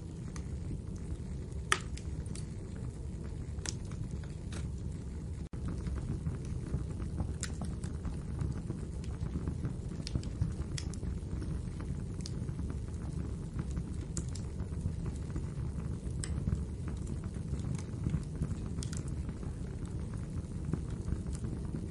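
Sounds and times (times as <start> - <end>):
fire crackles and pops: 0.0 - 21.9
low rumble of flames: 0.0 - 21.9.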